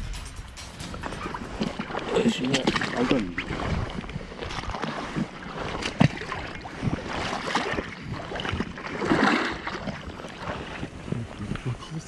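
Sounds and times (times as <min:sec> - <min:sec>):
wind buffeting microphone: 0:00.0 - 0:11.9
lake water lapping: 0:00.9 - 0:12.0.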